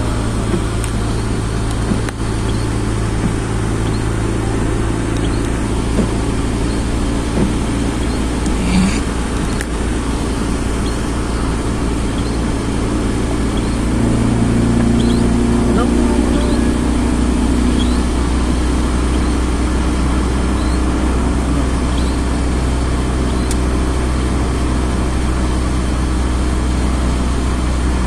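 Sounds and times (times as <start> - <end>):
engine and road drone: 0.0 - 28.0
tyres hissing on wet road: 0.0 - 28.0.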